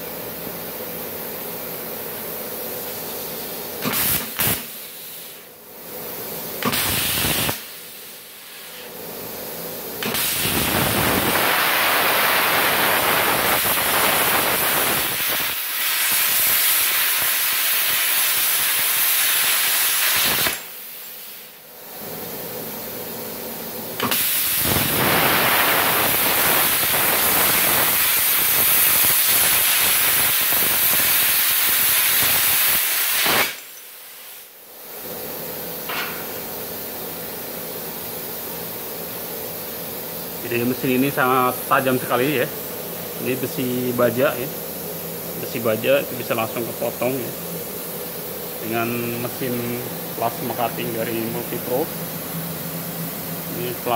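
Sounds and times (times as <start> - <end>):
plasma cutter hissing: 2.8 - 21.6, 24.0 - 34.6, 35.3 - 53.9.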